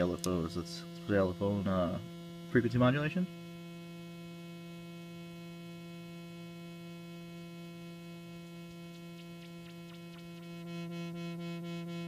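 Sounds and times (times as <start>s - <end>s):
buzzy square-wave synth tone: 0.0s - 12.0s.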